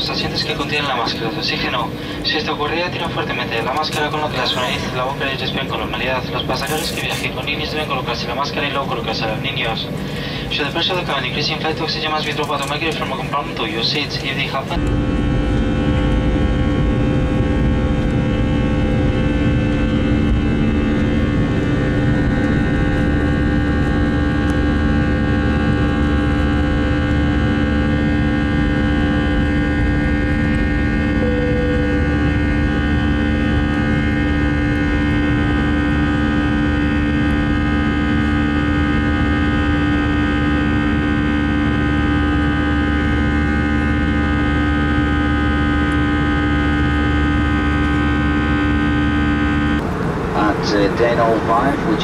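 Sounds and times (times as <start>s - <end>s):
jet engine drone: 0.0s - 52.0s
steady whining tones: 0.0s - 52.0s.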